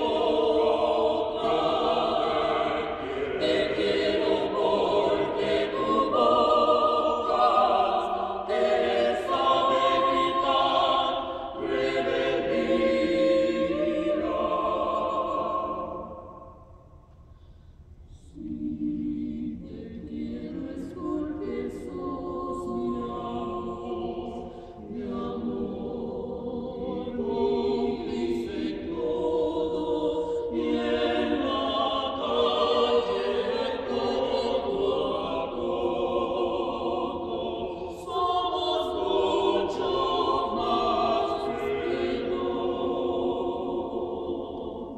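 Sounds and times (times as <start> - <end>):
vocal ensemble singing in harmony: 0.0 - 17.3, 17.9 - 44.9.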